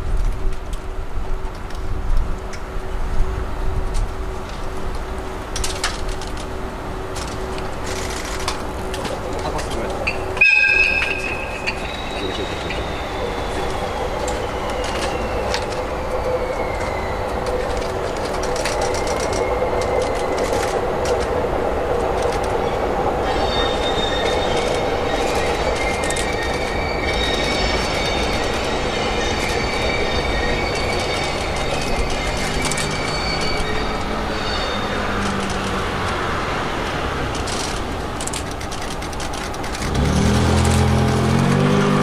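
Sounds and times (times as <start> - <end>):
train rumbling past: 0.0 - 42.0
wheels clicking over rail joints: 0.0 - 42.0
train wheels squealing: 7.0 - 42.0.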